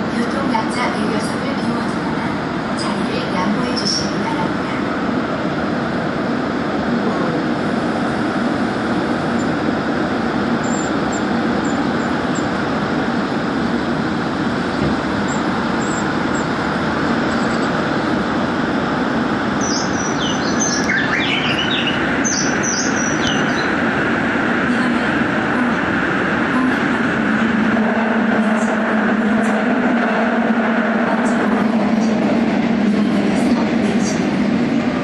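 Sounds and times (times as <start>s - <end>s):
subway train rolling: 0.0s - 35.0s.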